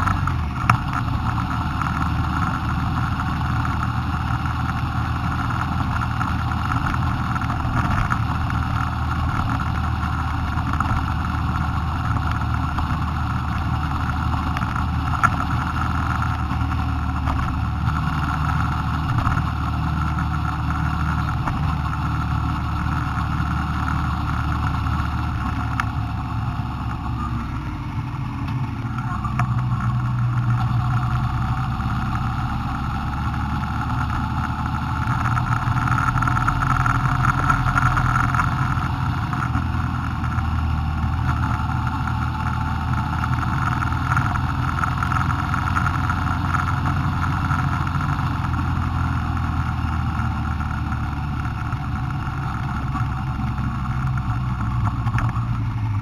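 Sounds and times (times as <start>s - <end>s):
road and wind noise: 0.0s - 56.0s
vehicle engine hum: 0.0s - 56.0s.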